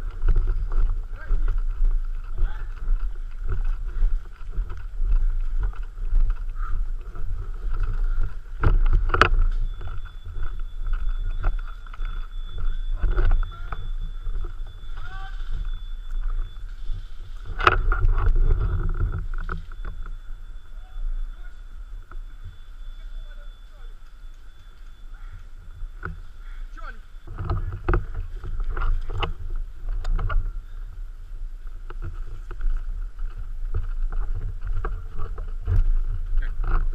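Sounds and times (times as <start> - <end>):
wind rumble on microphone: 0.0 - 36.9.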